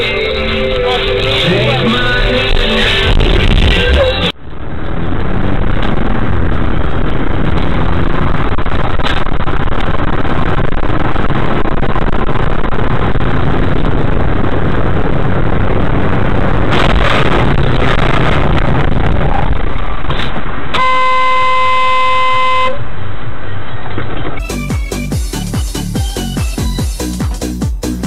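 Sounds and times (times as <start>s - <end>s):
car road and engine noise: 0.0s - 26.4s.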